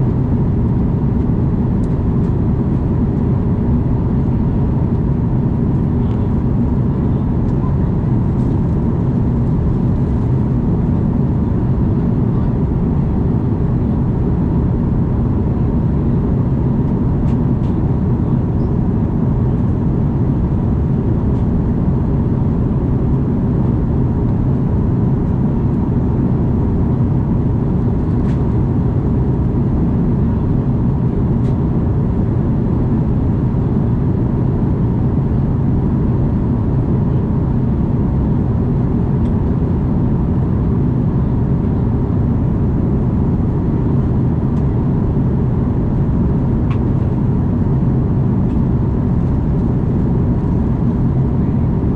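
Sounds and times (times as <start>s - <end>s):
faint steady whine: 0.0s - 51.9s
jet airliner engine rumble: 0.0s - 51.9s.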